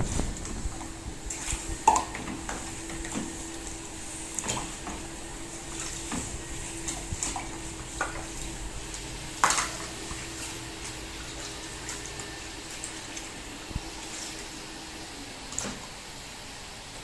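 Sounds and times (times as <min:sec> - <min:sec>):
running tap water: 0:00.0 - 0:17.0.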